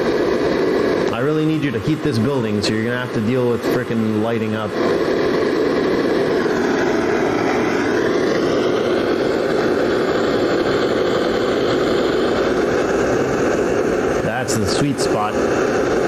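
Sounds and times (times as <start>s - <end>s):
wood furnace fire rushing: 0.0s - 16.0s.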